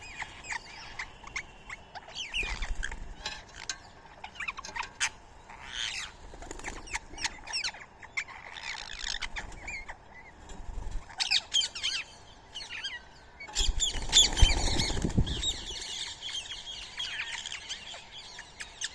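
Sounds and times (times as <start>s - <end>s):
birds chirping and squawking: 0.0s - 18.9s.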